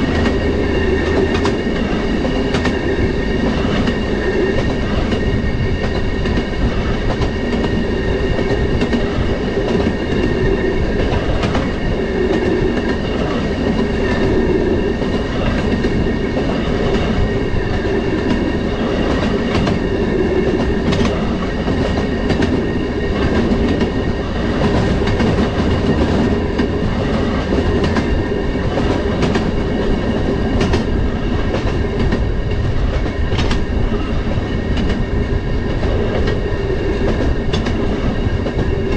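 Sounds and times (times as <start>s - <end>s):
rail motorcar drone and rumble: 0.0s - 38.9s
wheels clicking over rail joints: 0.0s - 38.9s.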